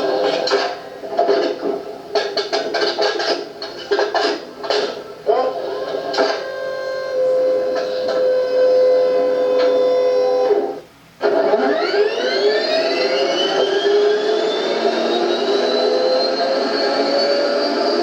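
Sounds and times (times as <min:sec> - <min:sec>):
turbine whine from small speaker: 0:00.0 - 0:18.0.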